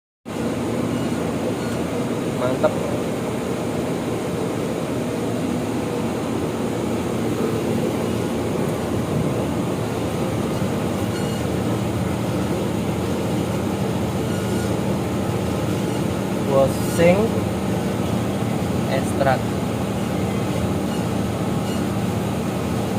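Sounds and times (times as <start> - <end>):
machine humming and rushing: 0.3 - 22.9.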